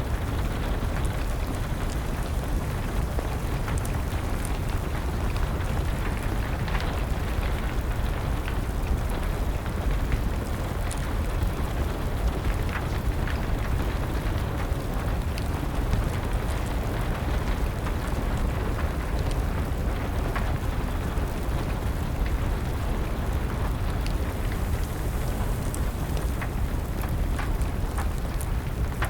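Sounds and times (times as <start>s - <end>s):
steady rain hiss: 0.0s - 29.0s
wood fire crackling and popping: 0.0s - 29.0s.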